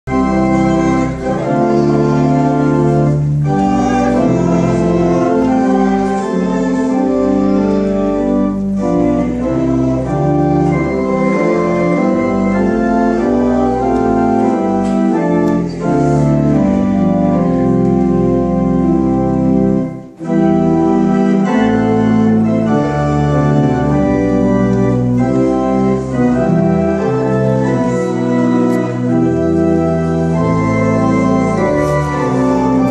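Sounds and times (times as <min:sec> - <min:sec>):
pipe organ chords: 0:00.0 - 0:32.9.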